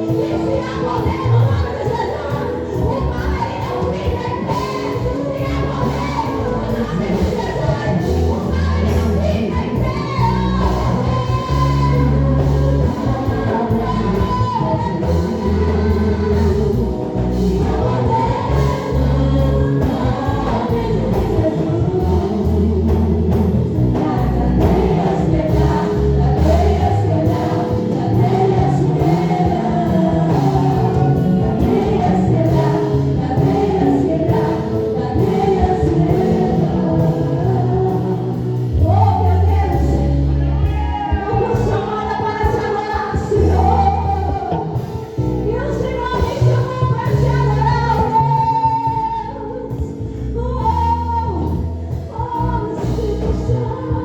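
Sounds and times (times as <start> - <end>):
band with strong bass and beat: 0.0 - 54.0
group singing gospel: 0.0 - 54.0.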